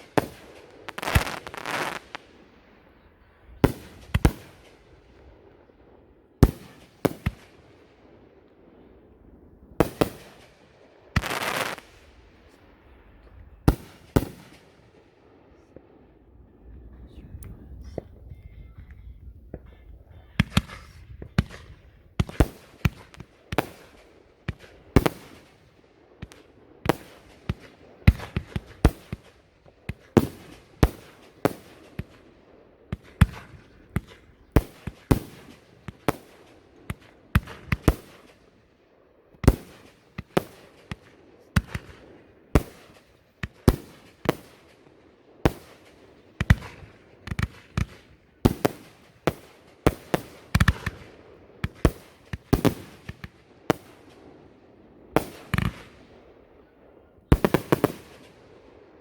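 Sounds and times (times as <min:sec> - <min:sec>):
fireworks bangs: 0:00.0 - 0:05.8, 0:06.4 - 0:08.3, 0:09.7 - 0:16.0, 0:19.4 - 0:38.6, 0:39.4 - 0:59.0.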